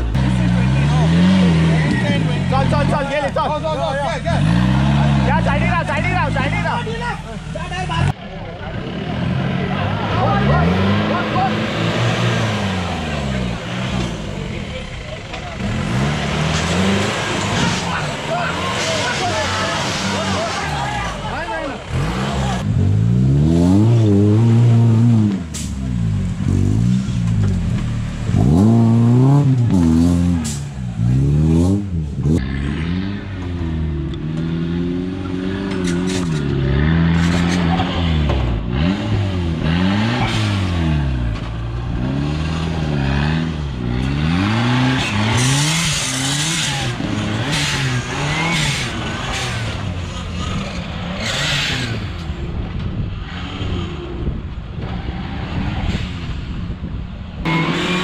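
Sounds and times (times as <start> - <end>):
engines revving hard: 0.0 - 58.0.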